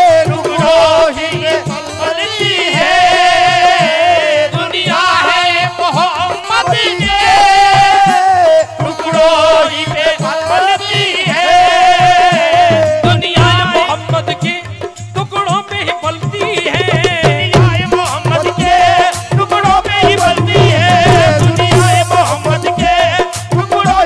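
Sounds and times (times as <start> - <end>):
harmonium: 0.0 - 24.0
tabla strokes: 0.0 - 24.0
wavering melodic vocal lines: 0.0 - 24.0.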